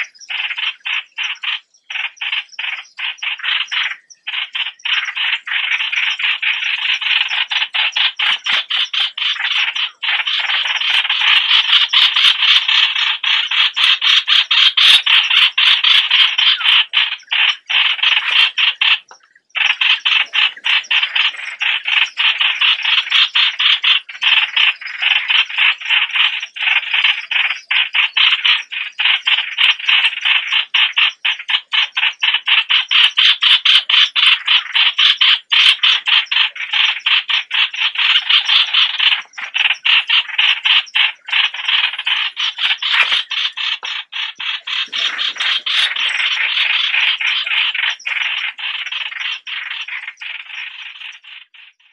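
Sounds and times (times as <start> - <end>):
birds chattering: 0.0 - 51.9.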